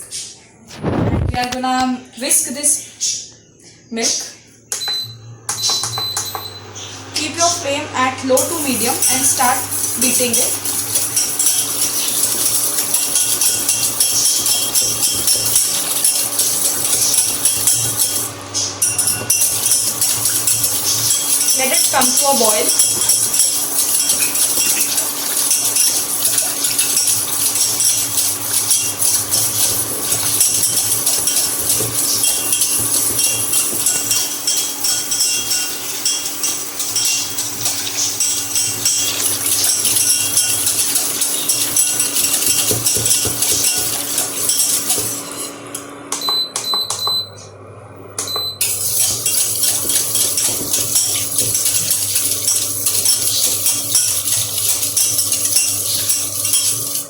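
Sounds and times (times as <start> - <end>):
whisk rattling against pan: 8.3 - 45.7, 48.7 - 57.0.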